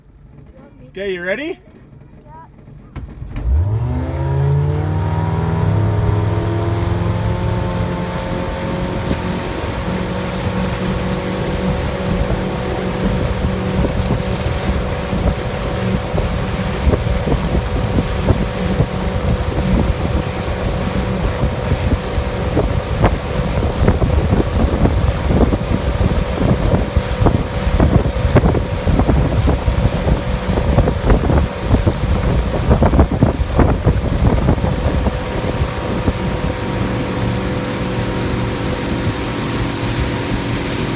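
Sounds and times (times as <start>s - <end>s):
boat motor running at high throttle: 0.0s - 40.9s
wind buffeting microphone: 3.1s - 40.9s.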